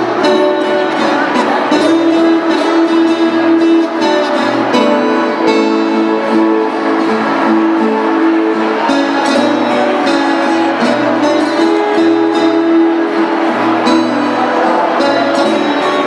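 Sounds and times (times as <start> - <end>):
acoustic guitar: 0.0 - 16.0
folk guitars strumming and plucking: 0.0 - 16.0.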